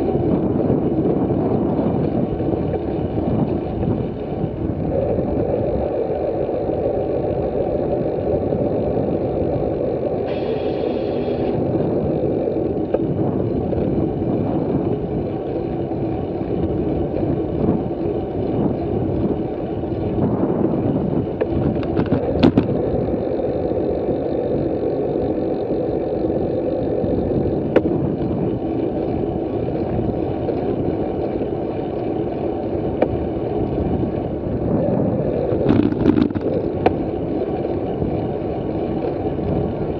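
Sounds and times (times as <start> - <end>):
road and tyre rumble: 0.0 - 39.9
wind rushing over microphone: 0.0 - 39.9.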